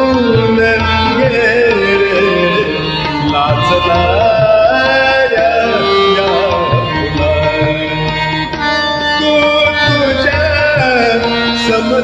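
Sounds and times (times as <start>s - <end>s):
person singing: 0.0s - 8.2s, 9.2s - 12.0s
tabla keeping the beat: 0.0s - 12.0s.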